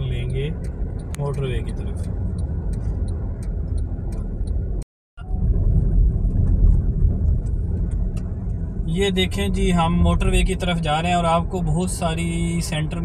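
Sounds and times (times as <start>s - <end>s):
engine and tyre rumble in car: 0.0s - 13.0s.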